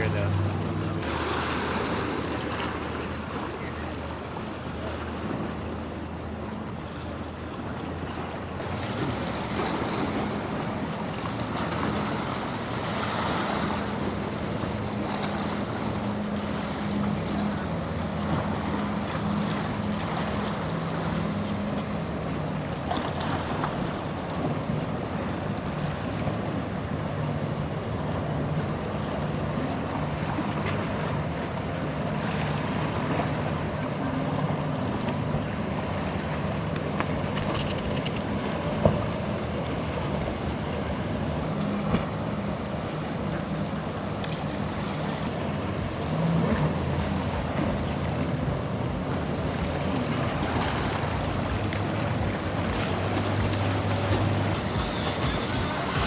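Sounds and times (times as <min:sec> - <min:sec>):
boat engine humming: 0:00.0 - 0:56.0
surf washing: 0:00.0 - 0:56.0.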